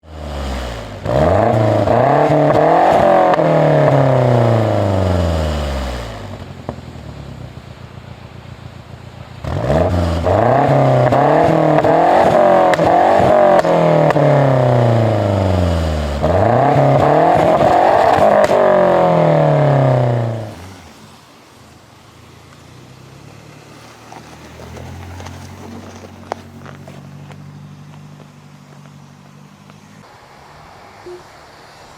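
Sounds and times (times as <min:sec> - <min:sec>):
car engine idling: 0:00.0 - 0:31.9
car engine revving: 0:00.0 - 0:31.9.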